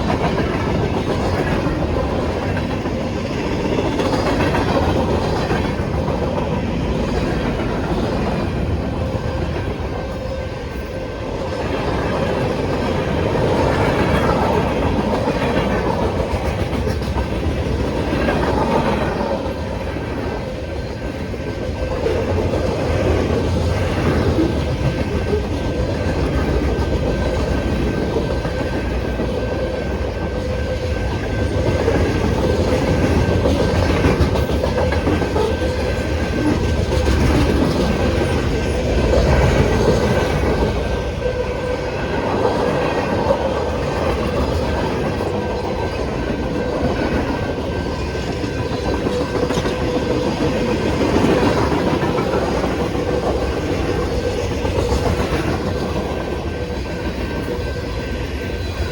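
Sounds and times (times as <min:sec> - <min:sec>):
freight train rolling past: 0:00.0 - 0:58.9.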